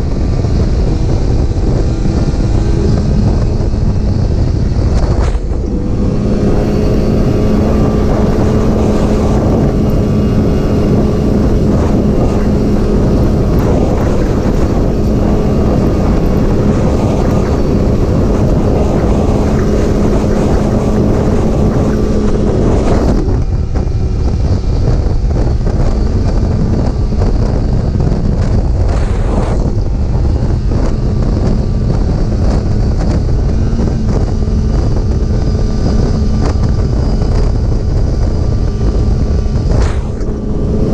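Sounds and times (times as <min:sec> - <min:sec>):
snowmobile engine running: 0:00.0 - 0:40.9
wind buffeting microphone: 0:00.0 - 0:40.9.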